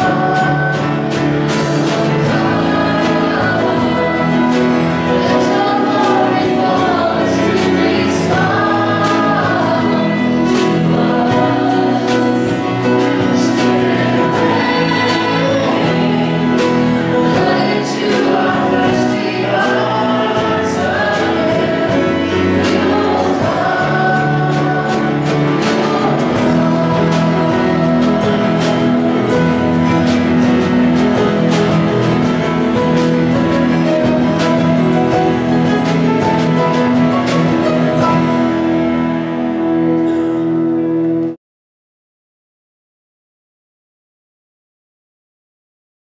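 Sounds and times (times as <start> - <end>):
voices singing together: 0.0 - 39.0
live band playing: 0.0 - 41.4.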